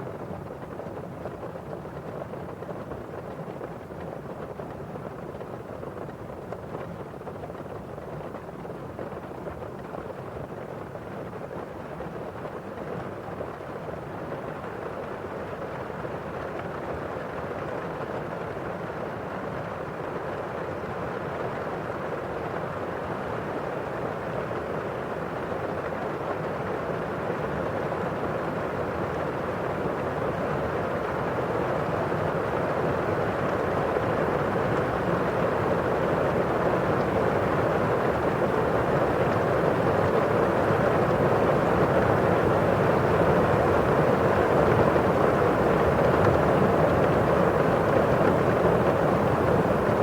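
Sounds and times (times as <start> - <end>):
rain on a window pane: 0.0 - 50.0.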